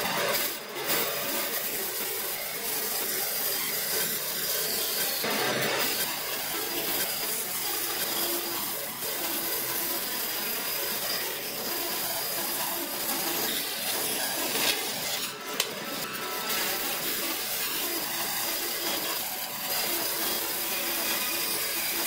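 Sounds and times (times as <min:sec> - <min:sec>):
bandsaw blade cutting wood: 0:00.0 - 0:22.0.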